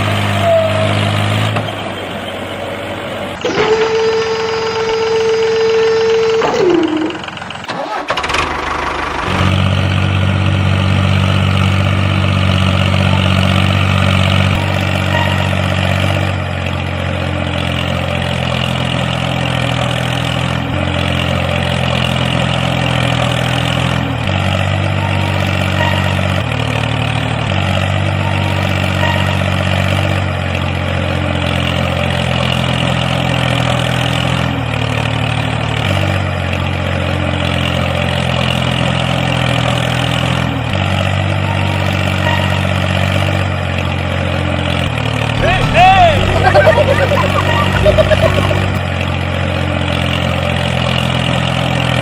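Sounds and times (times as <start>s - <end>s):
tractor engine idling: 1.4s - 38.6s, 42.6s - 51.8s.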